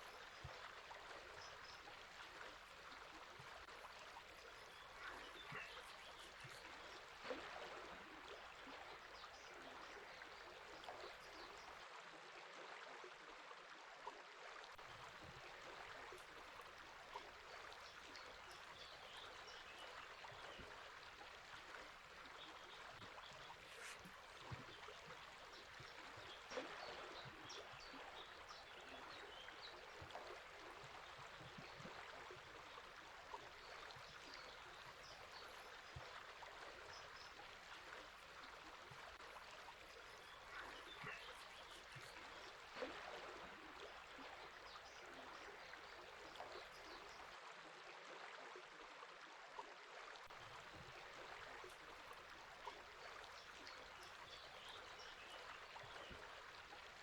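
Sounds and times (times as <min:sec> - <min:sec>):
river water babbling over stones: 0:00.0 - 0:11.8, 0:14.8 - 0:47.3, 0:50.3 - 0:57.0.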